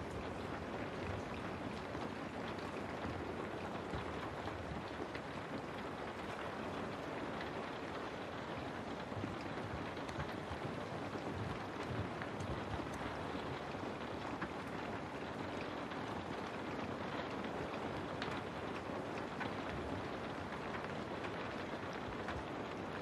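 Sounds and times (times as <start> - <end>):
raindrop ticks: 0.0 - 23.0.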